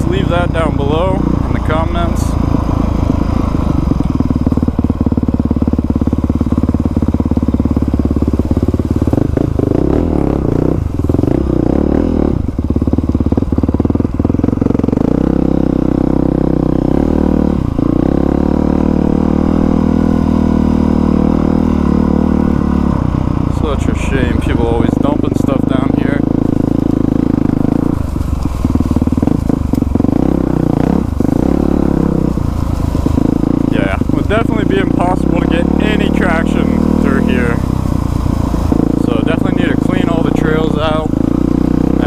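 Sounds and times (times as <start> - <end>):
dirt bike engine running: 0.0 - 42.0.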